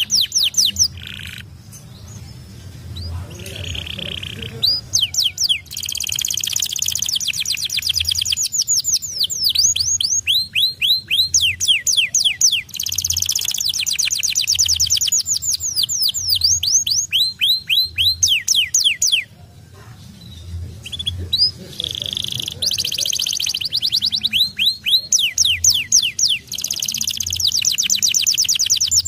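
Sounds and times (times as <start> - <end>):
canary singing trills: 0.0 - 29.0.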